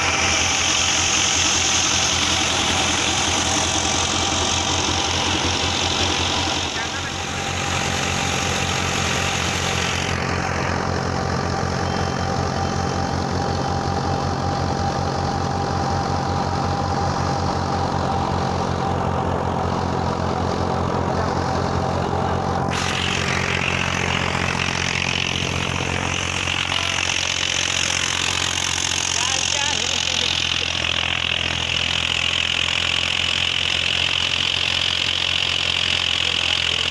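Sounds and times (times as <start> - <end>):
thin steady whine: 0.0 - 36.9
tractor diesel engine pulsing: 0.0 - 36.9.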